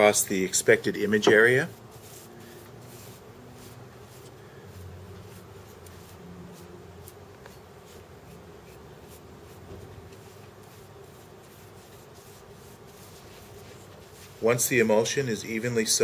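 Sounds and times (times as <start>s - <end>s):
brush swishing on paper: 0.0s - 14.9s
low steady hum: 0.0s - 15.8s.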